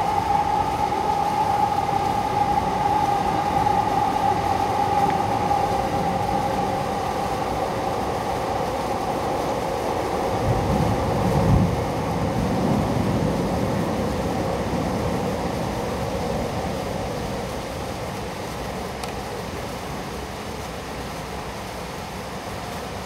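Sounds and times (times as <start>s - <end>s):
torrential rain: 0.0s - 23.0s.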